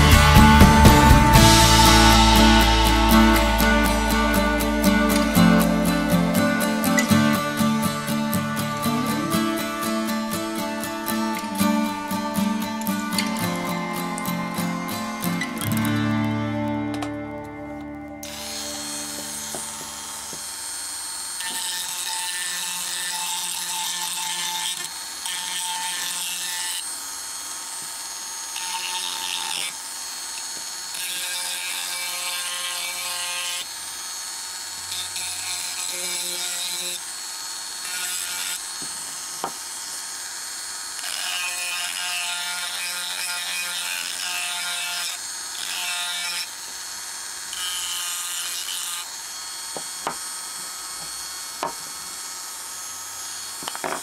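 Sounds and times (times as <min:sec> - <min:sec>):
sanding bit scratching wood: 0:00.0 - 0:15.4, 0:18.3 - 0:54.0
rotary tool motor whine: 0:00.0 - 0:16.8, 0:18.2 - 0:54.0.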